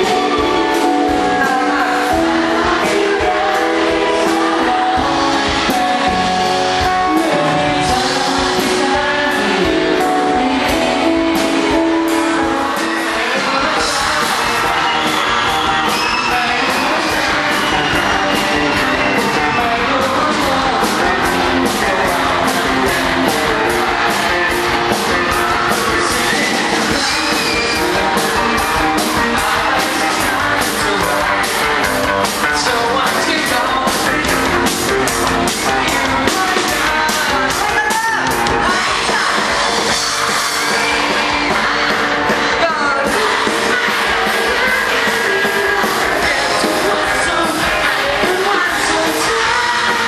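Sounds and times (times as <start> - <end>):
drums: 0.0 - 50.0
electric guitars: 0.0 - 50.0
person singing: 0.0 - 50.0.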